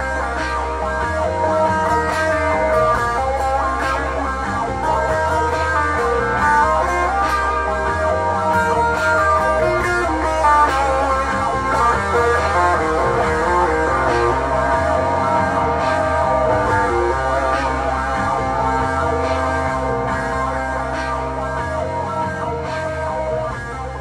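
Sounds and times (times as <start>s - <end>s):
layered electric guitar loops: 0.0s - 24.0s.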